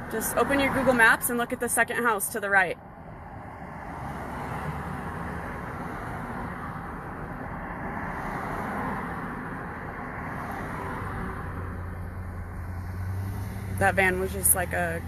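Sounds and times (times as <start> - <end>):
road vehicle engine and tyres: 0.0 - 15.0.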